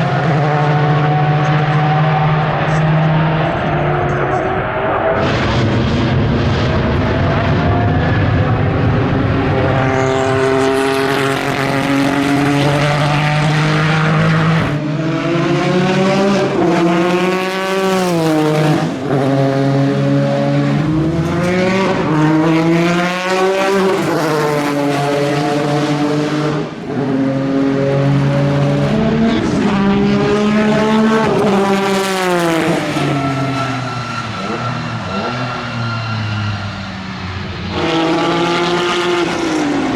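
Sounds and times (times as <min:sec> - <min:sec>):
racing engine revving: 0:00.0 - 0:39.9.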